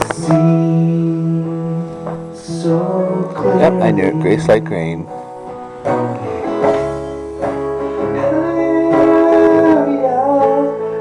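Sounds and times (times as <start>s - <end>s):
band playing worship song: 0.0s - 11.0s.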